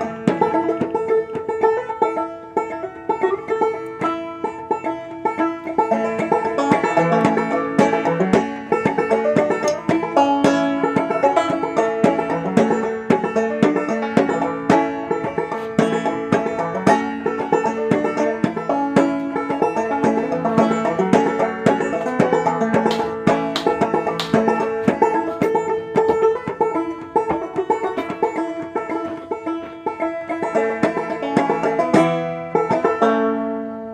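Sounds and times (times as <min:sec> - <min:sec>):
fast plucked string music: 0:00.0 - 0:33.9.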